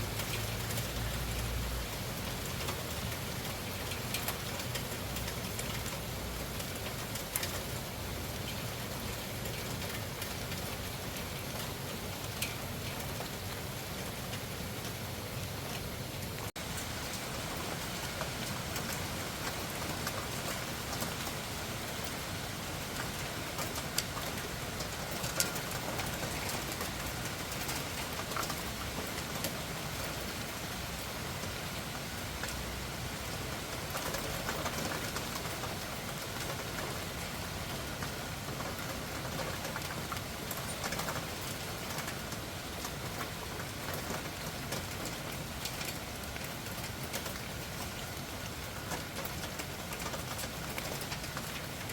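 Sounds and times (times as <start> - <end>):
heavy rain falling: 0.0 - 51.9
raindrops ticking on surfaces: 0.0 - 51.9.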